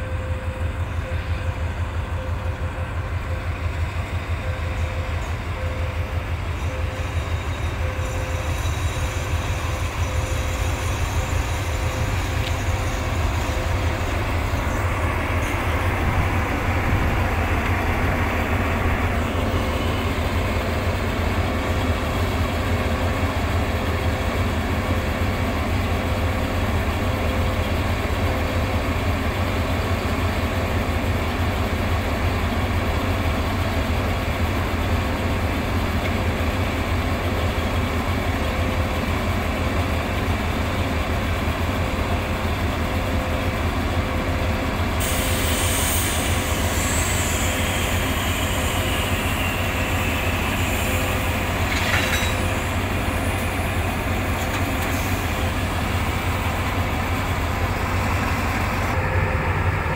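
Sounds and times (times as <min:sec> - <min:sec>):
diesel locomotives idling: 0:00.0 - 0:59.9.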